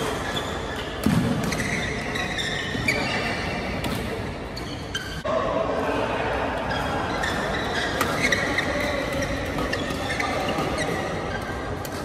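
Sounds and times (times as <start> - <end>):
shoes squeaking on court floor: 0.0 - 5.3, 6.7 - 12.0.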